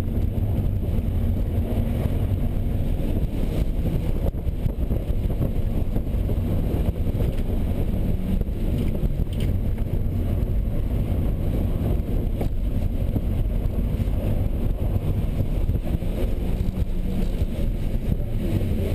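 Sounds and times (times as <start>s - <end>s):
car engine revving: 0.0s - 18.9s
wind buffeting microphone: 0.0s - 18.9s.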